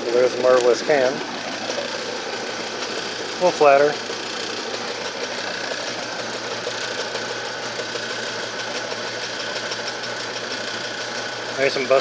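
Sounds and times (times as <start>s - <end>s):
can crusher machine humming and ticking: 0.0s - 12.0s.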